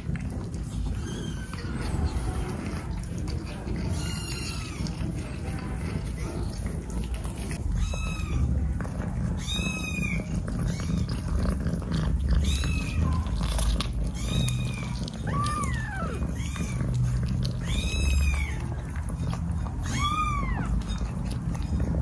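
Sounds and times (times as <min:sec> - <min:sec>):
kittens mewing: 0:00.0 - 0:22.0
low rumble of cats eating: 0:00.0 - 0:22.0.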